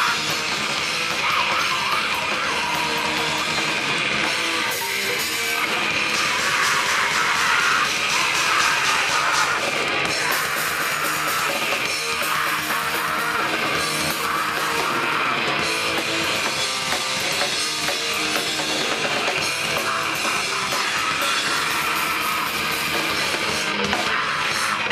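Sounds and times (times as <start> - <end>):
distorted guitars: 0.0 - 24.9
fast drumming: 0.0 - 24.9.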